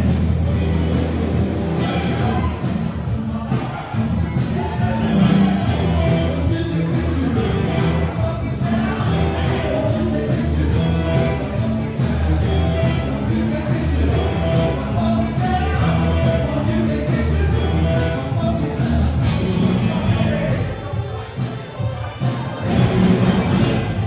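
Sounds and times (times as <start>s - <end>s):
bass guitar: 0.0s - 21.5s, 22.2s - 24.0s
rock band playing live: 0.0s - 24.0s
steady drumbeat: 0.0s - 24.0s
person singing: 1.6s - 24.0s.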